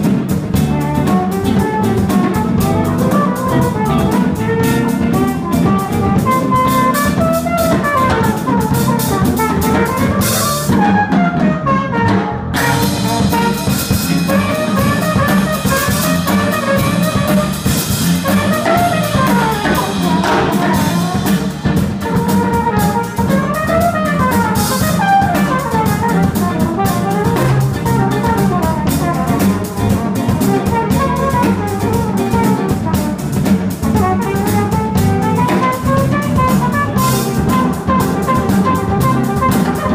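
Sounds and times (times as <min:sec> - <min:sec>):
drum kit: 0:00.0 - 0:39.9
electric bass guitar: 0:00.0 - 0:39.9
electric keyboard: 0:00.0 - 0:39.9
flugelhorn solo: 0:00.8 - 0:21.4, 0:22.0 - 0:39.9.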